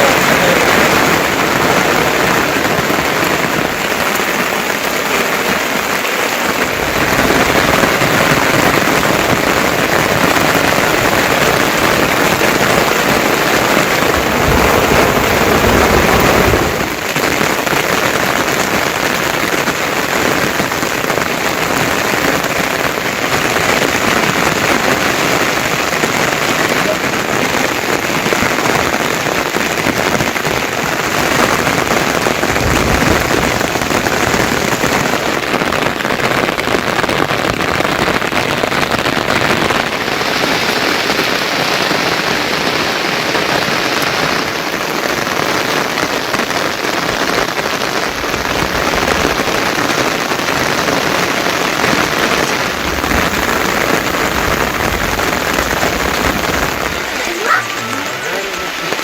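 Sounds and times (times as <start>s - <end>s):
low thunder rumbles: 0.0s - 36.6s, 47.0s - 59.0s
heavy rain falling: 0.0s - 59.0s.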